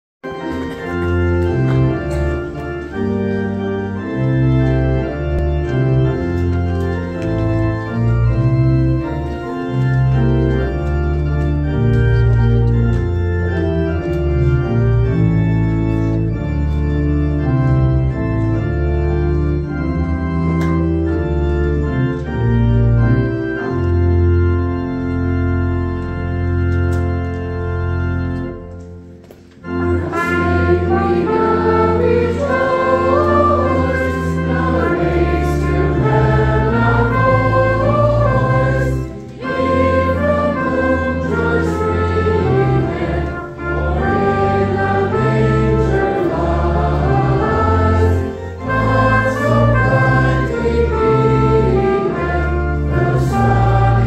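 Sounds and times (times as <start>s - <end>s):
church organ playing hymn: 0.2s - 54.0s.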